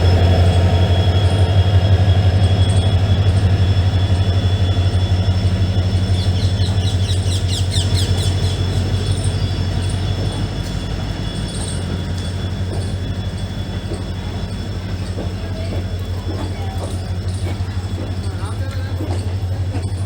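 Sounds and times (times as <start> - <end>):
high wheel squeals: 0.0 - 20.0
train coach rumbling on track: 0.0 - 20.0.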